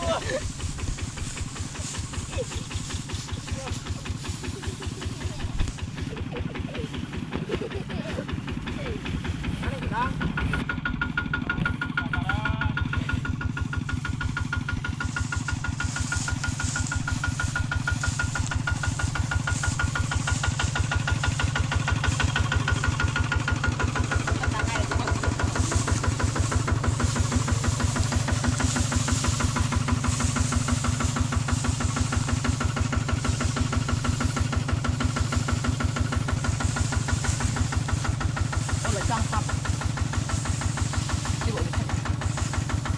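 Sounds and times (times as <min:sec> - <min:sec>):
diesel tractor engine puttering: 0:00.0 - 0:42.9.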